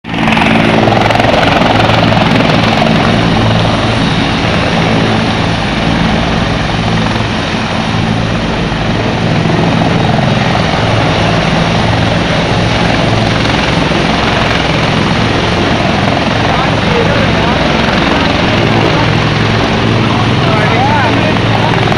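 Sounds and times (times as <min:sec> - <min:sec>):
helicopter rotor and engine: 0:00.0 - 0:21.9.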